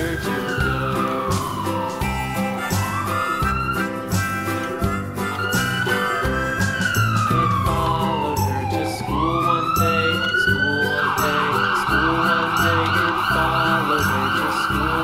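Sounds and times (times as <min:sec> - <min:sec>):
background music: 0:00.0 - 0:15.0
siren wailing: 0:00.0 - 0:15.0.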